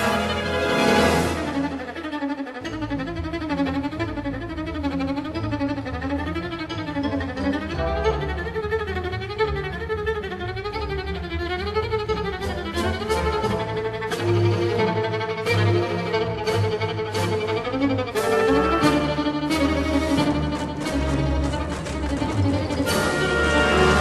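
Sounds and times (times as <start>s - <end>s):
low accompaniment: 0.0s - 24.0s.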